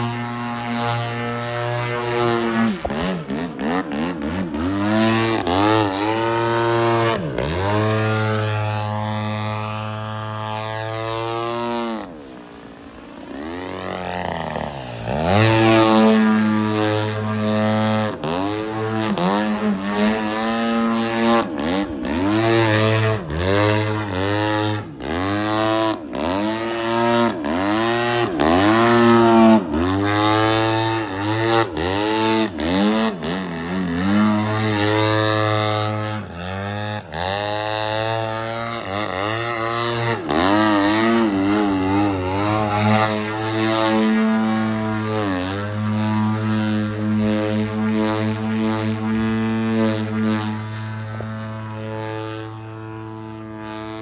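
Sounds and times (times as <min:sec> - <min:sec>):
model airplane engine and propeller: 0:00.0 - 0:54.0.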